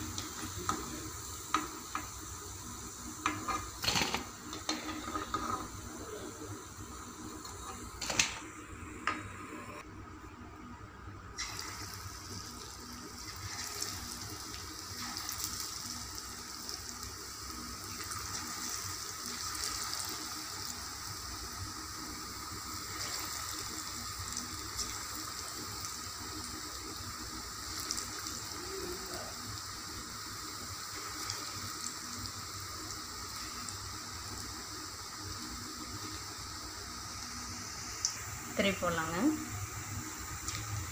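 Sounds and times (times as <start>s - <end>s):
fritters sizzling in hot oil: 0.0s - 9.5s, 11.3s - 40.9s.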